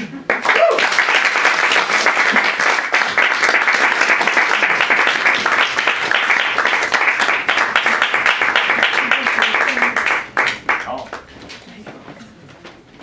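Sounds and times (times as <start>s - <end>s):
audience applauding: 0.2s - 11.3s.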